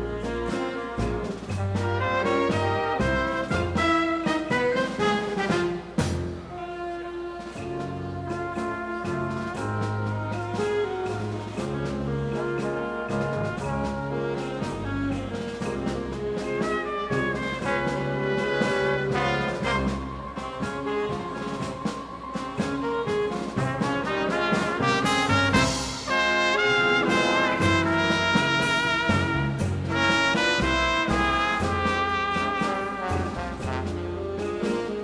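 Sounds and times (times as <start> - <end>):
percussion: 0.0 - 35.0
trumpets and trombones: 0.0 - 35.0.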